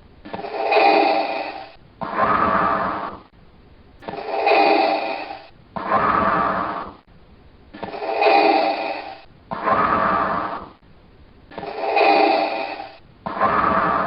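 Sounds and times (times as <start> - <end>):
mechanical respirator breathing: 0.3 - 3.3, 4.0 - 7.0, 7.8 - 10.8, 11.5 - 14.0.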